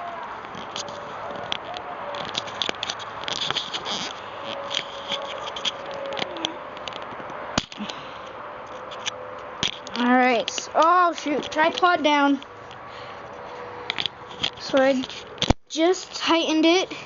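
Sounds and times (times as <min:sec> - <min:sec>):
handling clicks and scrapes: 0:00.0 - 0:15.6.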